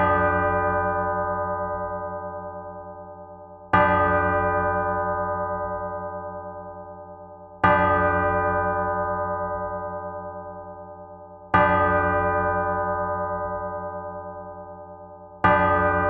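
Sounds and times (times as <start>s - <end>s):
church bell tolling: 0.0s - 16.0s.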